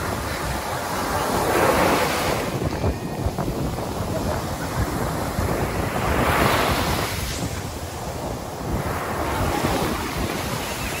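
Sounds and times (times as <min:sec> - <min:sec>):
surf washing over sand: 0:00.0 - 0:11.0
wind buffeting microphone: 0:00.0 - 0:11.0.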